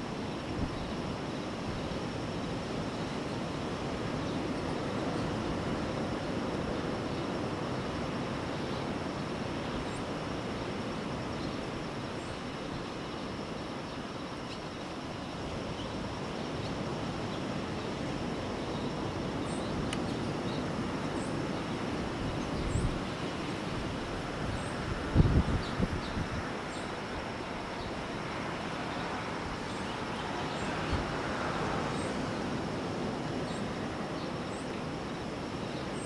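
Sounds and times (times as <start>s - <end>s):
ocean surf: 0.0s - 36.0s
wind: 0.0s - 36.0s.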